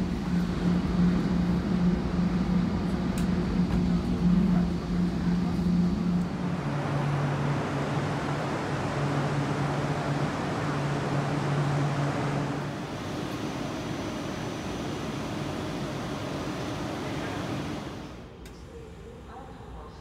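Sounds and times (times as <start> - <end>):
low motor hum: 0.0 - 18.3.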